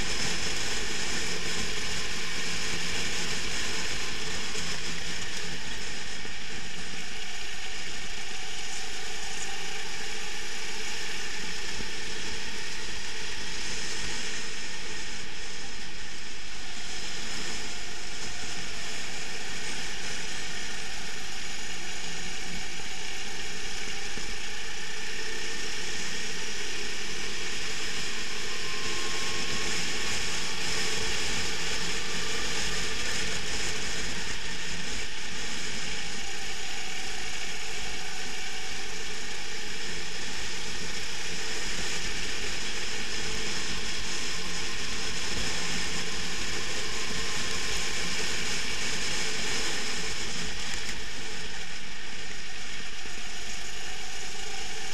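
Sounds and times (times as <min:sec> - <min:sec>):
kart engine buzzing: 0:00.0 - 0:54.9.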